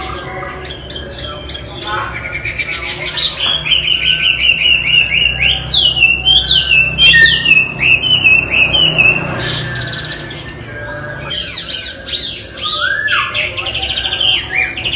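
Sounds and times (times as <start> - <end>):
bird whistling song: 0.7 - 14.9.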